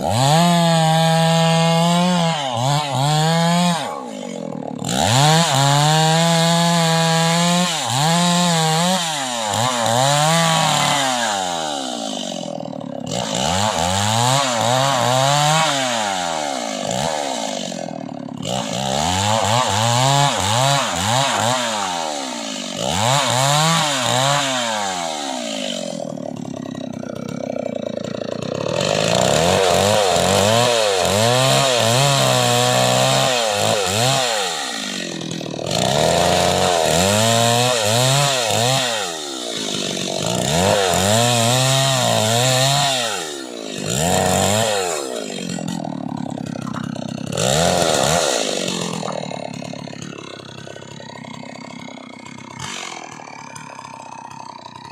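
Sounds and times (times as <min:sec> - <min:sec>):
chainsaw sawing wood: 0:00.0 - 0:54.9.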